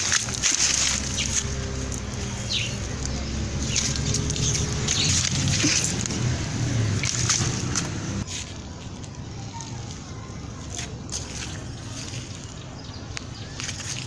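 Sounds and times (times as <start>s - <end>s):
sloshing in waterlogged ground: 0.0s - 14.0s.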